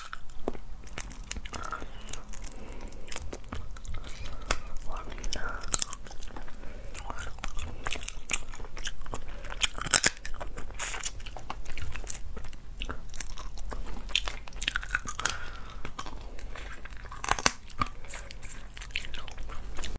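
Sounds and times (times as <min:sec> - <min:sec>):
sharp crunches and clicks: 0:00.0 - 0:19.9
wet chewing and biting: 0:00.0 - 0:19.9.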